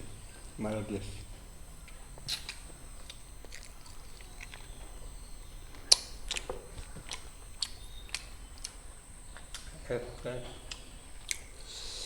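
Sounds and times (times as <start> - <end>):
person chewing food: 1.3 - 12.0.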